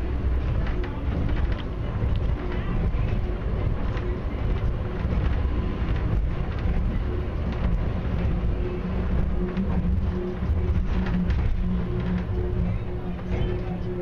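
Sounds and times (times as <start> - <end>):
light rattles and ticks: 0.0 - 13.9
train rumbling on guideway: 0.0 - 14.0.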